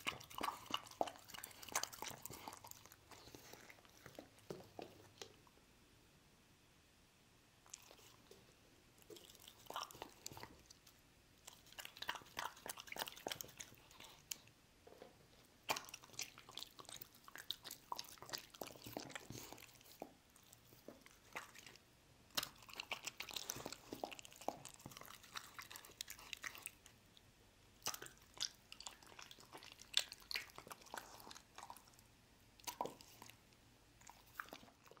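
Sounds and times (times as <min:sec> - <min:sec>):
dog chewing: 0:00.0 - 0:05.4, 0:07.7 - 0:27.0, 0:27.8 - 0:33.4, 0:34.0 - 0:35.0.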